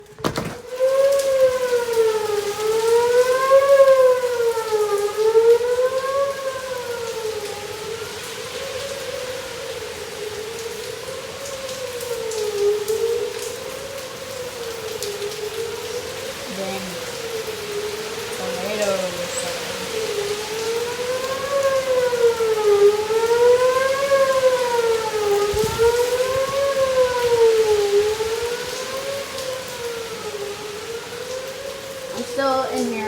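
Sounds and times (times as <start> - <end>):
warning siren wailing: 0.0 - 33.0.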